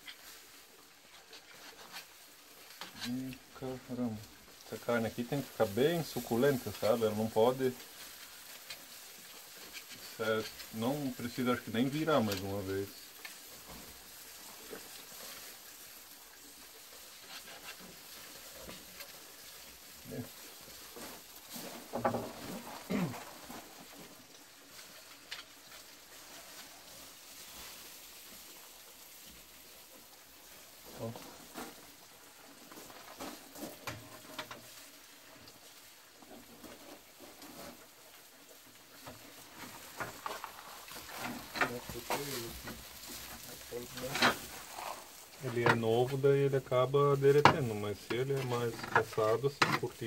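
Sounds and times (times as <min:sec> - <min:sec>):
meat sizzling on a grill: 0:00.0 - 0:50.0.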